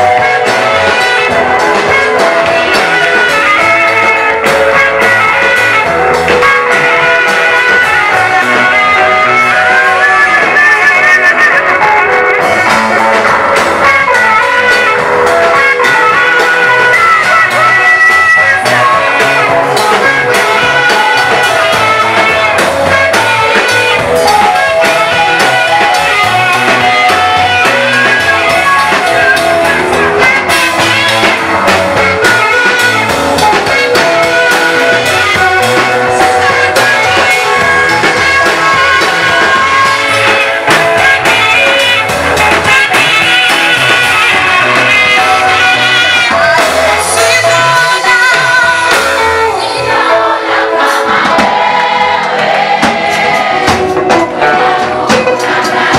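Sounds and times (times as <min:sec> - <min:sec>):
guitar: 0:00.0 - 0:55.9
voices singing over a band: 0:00.0 - 0:55.9.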